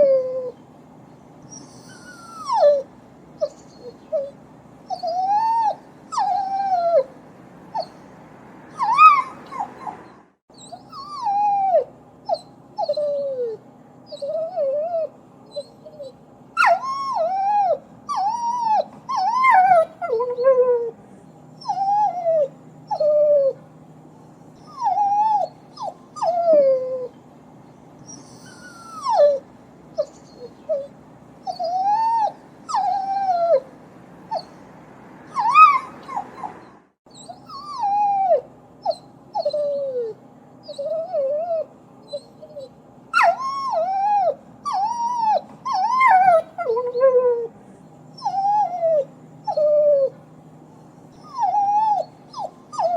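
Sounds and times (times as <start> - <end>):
dog whining and whimpering: 0.0 - 0.6, 1.5 - 8.1, 8.7 - 21.0, 21.6 - 23.6, 24.6 - 27.2, 28.0 - 34.7, 35.3 - 50.2, 51.1 - 52.9.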